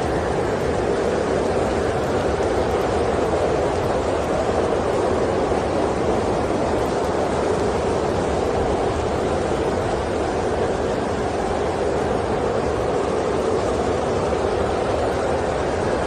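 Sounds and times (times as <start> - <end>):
deep white noise hiss: 0.0 - 16.0.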